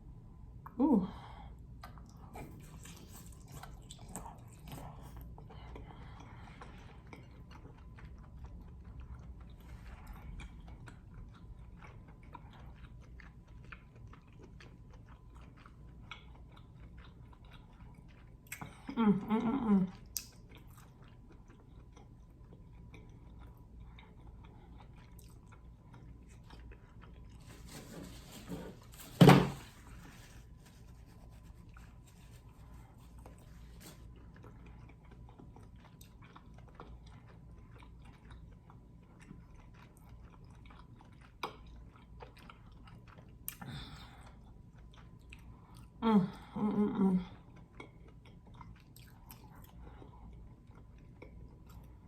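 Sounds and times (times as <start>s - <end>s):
chewing and biting: 1.8s - 18.9s, 19.9s - 29.0s, 29.7s - 46.0s, 47.4s - 52.0s.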